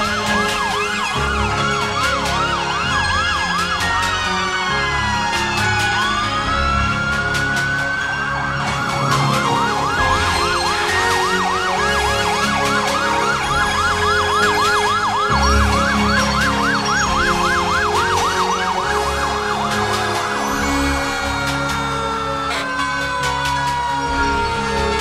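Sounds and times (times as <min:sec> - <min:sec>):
fire truck siren wailing and yelping: 0:00.0 - 0:25.0.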